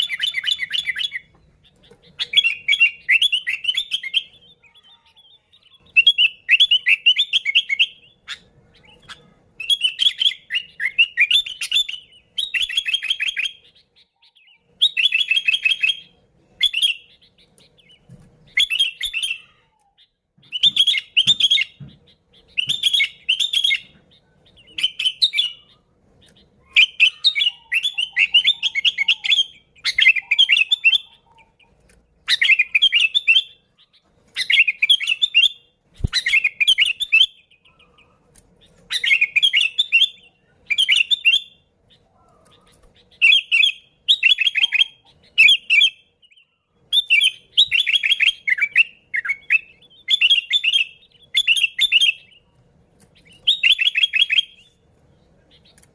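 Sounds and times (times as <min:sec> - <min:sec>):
bulbul chirpy song: 0:00.0 - 0:55.9.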